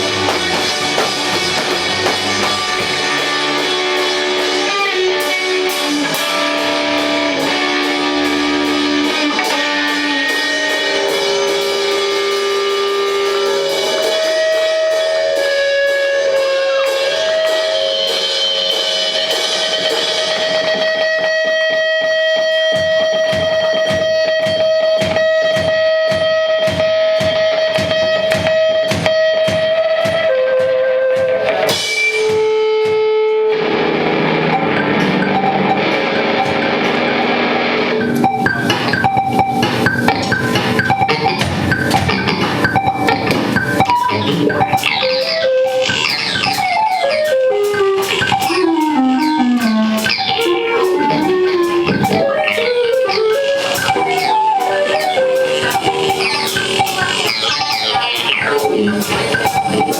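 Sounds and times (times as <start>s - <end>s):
drums: 0.0s - 59.9s
electric guitar: 0.0s - 59.9s.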